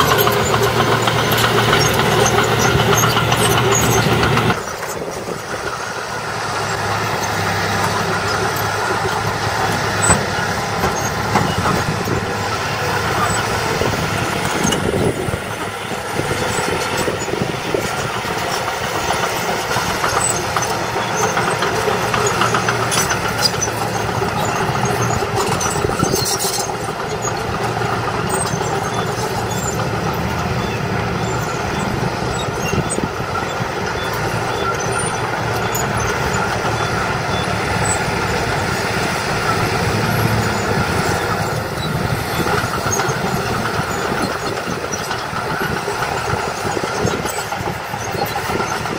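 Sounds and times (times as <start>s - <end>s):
crawler dozer diesel engine: 0.0s - 48.9s
dump truck diesel engine: 0.0s - 48.9s.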